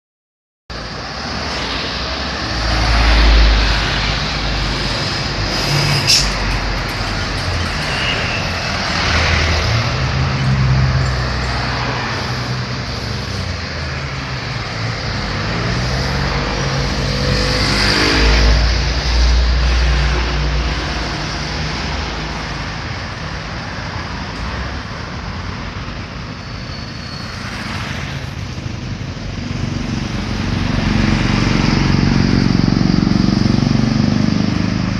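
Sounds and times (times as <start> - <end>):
heavy vehicles rumbling past: 0.7 - 34.9
traffic engines running: 0.7 - 34.9.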